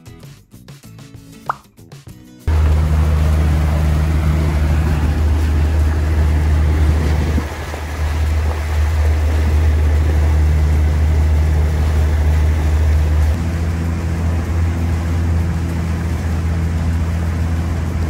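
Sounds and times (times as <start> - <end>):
outboard motor drone: 2.5 - 18.0
wind and water rushing: 2.5 - 18.0.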